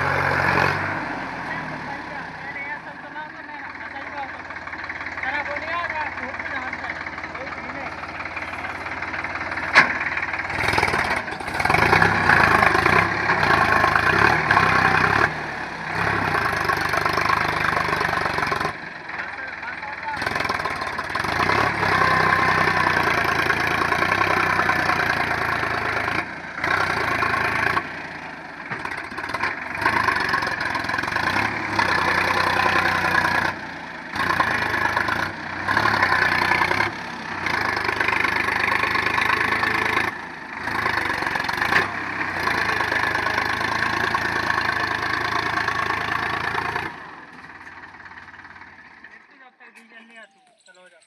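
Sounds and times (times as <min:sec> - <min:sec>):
tractor diesel engine running: 0:00.0 - 0:49.5.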